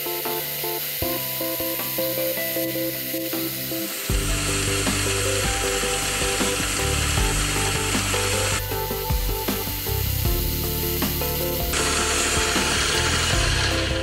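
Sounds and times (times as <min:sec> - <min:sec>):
drill cutting through brass: 0:00.0 - 0:14.0.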